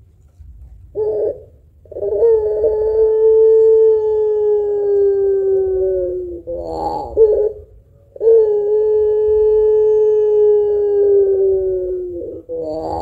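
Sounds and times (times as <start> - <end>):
dove cooing: 0.9 - 13.0.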